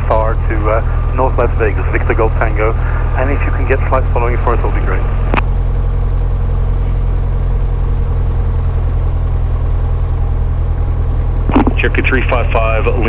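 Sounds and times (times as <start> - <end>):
plane piston engine droning: 0.0 - 13.0.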